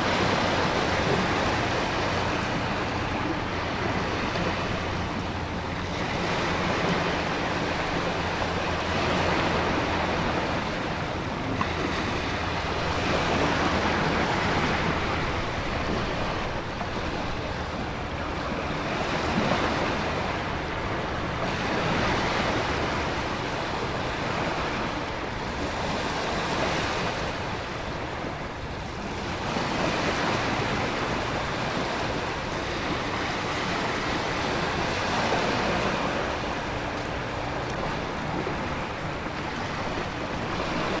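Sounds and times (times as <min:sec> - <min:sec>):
ocean surf: 0:00.0 - 0:41.0
wind: 0:00.0 - 0:41.0.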